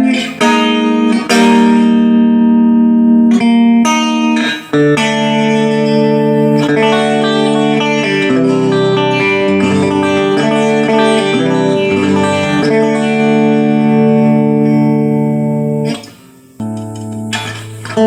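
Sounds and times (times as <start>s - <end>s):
electric guitar chords: 0.0s - 18.0s.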